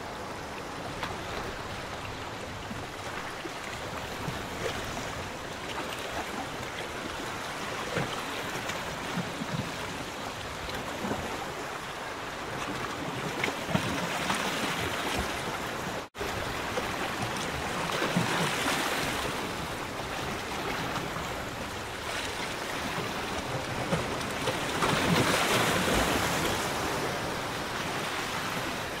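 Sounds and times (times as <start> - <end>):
small waves lapping and splashing: 0.0 - 29.0.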